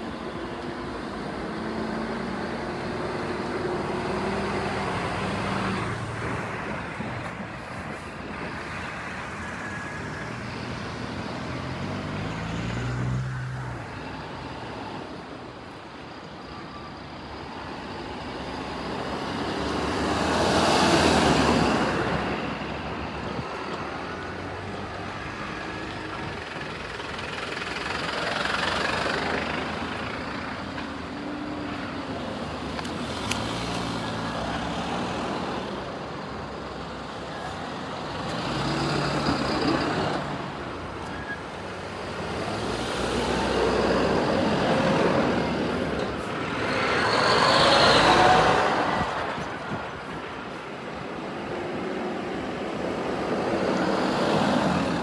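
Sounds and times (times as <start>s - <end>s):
cars and trucks passing: 0.0s - 55.0s.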